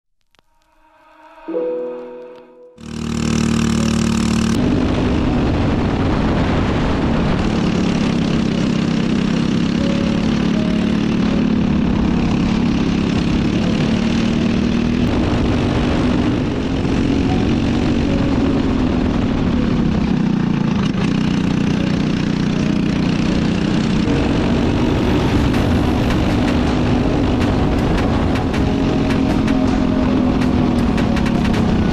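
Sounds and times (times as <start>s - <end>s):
go-kart engine at high revs: 2.8s - 31.9s.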